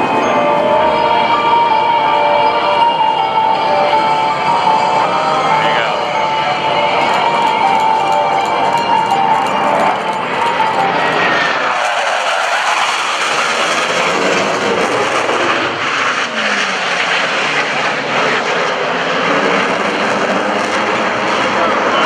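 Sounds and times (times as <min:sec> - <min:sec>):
jets passing: 0:00.0 - 0:22.0.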